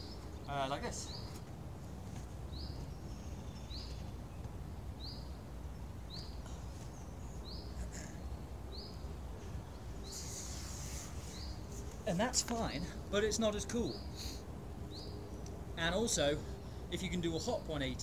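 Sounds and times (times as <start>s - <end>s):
bird chirping: 0.0s - 1.5s, 2.4s - 18.0s
low outdoor rumble: 0.0s - 18.0s.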